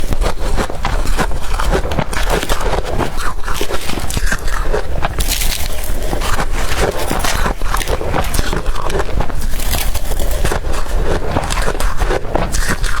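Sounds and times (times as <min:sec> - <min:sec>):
ice being crunched: 0:00.0 - 0:13.0.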